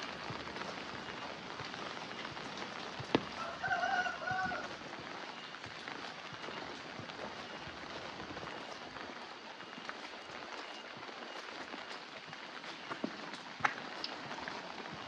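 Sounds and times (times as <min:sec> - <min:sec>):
rain on ground and roofs: 0:00.0 - 0:15.0.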